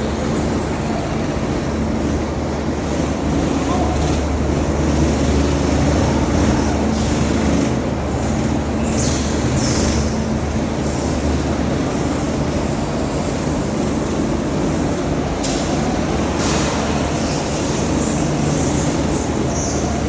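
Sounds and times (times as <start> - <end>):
go-kart engines running: 0.0 - 20.0.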